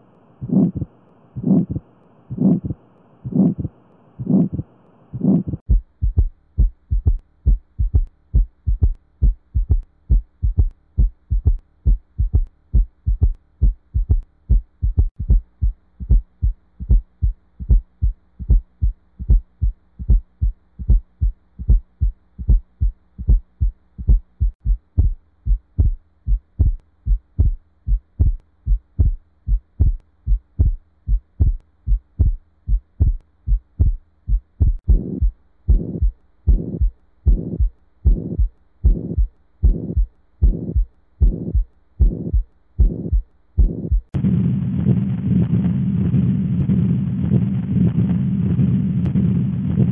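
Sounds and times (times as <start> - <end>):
faint steady hum: 0.0 - 49.9
heartbeat thumps: 0.4 - 44.2.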